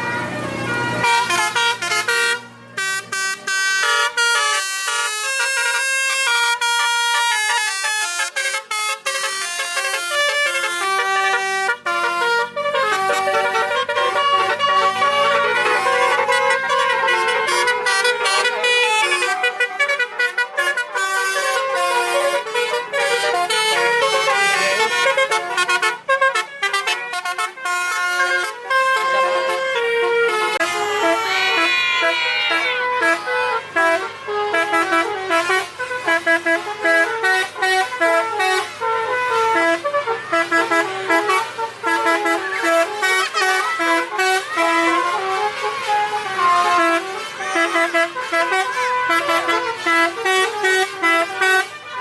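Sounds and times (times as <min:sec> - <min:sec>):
multi-tone truck horn melody: 0:00.0 - 0:52.0.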